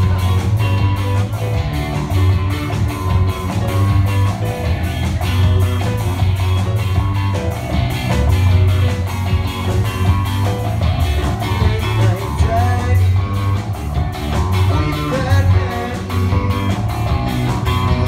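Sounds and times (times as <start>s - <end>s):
bass line: 0.0s - 18.0s
guitars strumming: 0.0s - 18.0s
steady drum beat: 0.0s - 18.0s.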